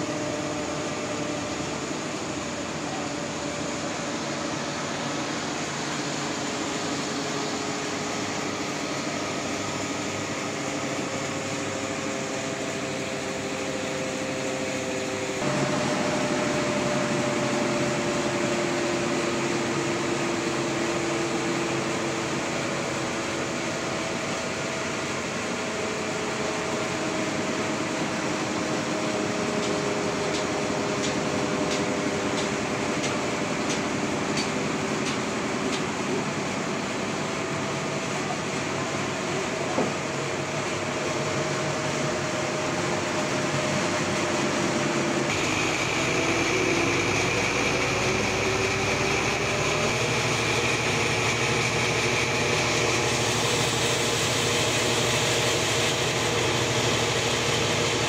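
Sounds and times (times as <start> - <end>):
sawmill machinery hum: 0.0 - 58.0.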